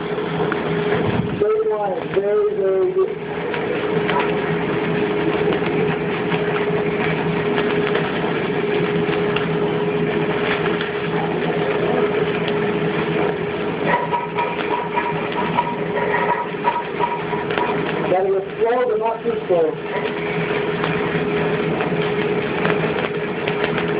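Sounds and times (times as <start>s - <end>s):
steady hum: 0.0s - 23.9s
welding arc crackling and sizzling: 0.0s - 23.9s.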